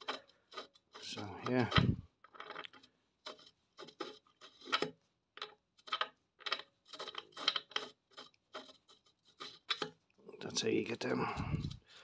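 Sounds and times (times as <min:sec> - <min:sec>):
metallic clicks and scrapes: 0:00.0 - 0:12.0.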